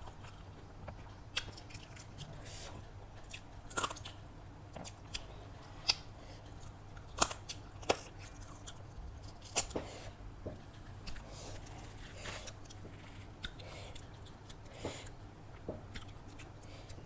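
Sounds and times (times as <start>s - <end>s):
close-miked chewing: 0.0s - 10.1s, 10.7s - 17.0s
faint steady hum: 0.0s - 17.0s.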